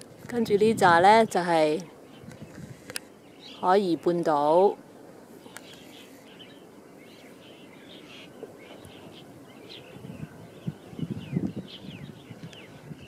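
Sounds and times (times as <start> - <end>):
birds chirping: 0.0 - 13.0
low background hiss: 0.0 - 13.0.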